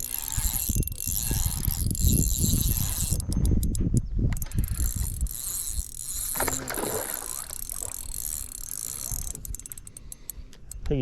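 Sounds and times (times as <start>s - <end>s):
fishing reel clicking: 0.0s - 11.0s.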